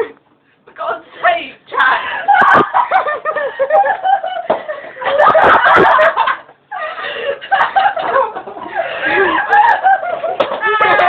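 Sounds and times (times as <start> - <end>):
people laughing: 2.0 - 11.0.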